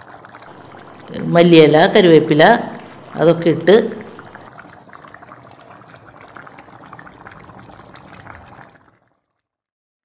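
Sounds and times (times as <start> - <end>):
curry bubbling in a pan: 0.0 - 9.7.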